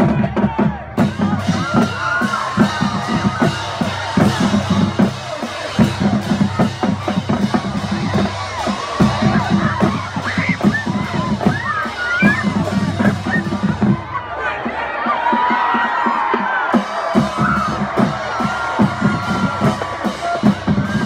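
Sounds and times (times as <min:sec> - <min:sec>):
bass drums: 0:00.0 - 0:21.0
snare drums: 0:00.0 - 0:21.0.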